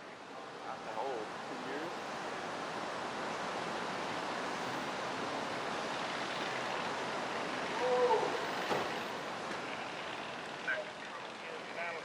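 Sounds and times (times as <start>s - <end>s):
rain: 0.0s - 12.0s.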